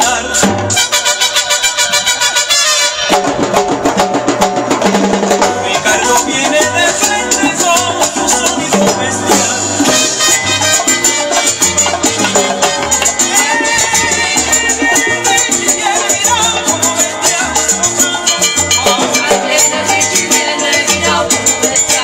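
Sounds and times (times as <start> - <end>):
salsa music: 0.0 - 22.0.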